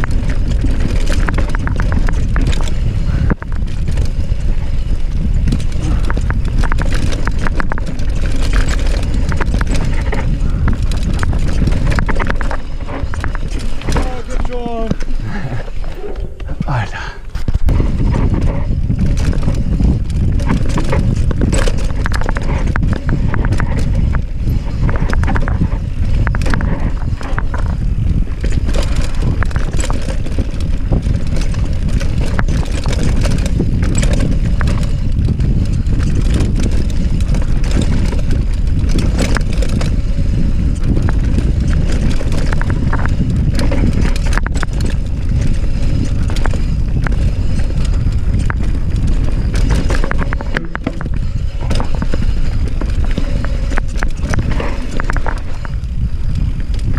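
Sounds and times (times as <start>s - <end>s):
bike clattering: 0.0s - 56.9s
tyres rumbling over dirt: 0.0s - 56.9s.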